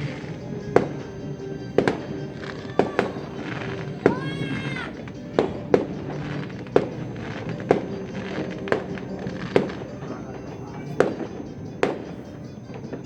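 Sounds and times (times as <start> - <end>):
background music: 0.0 - 13.0
fireworks bangs: 0.0 - 13.0.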